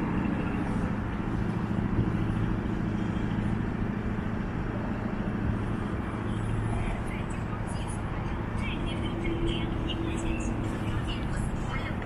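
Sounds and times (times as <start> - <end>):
city traffic rumble: 0.0 - 12.0
constant low hum: 0.0 - 12.0.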